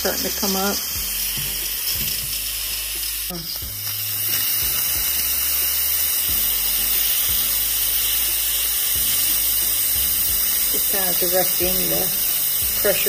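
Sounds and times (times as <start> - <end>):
pressure cooker venting steam: 0.0 - 13.0.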